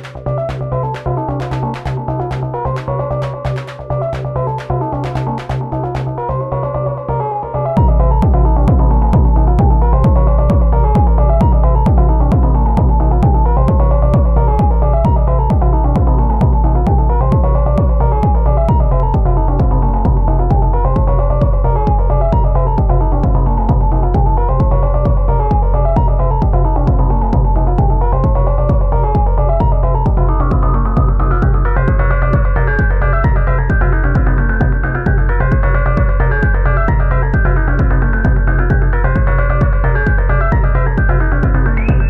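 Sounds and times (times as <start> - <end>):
drum machine kick beat: 0.0 - 6.2, 7.8 - 42.0
sustained synth bass: 0.0 - 42.0.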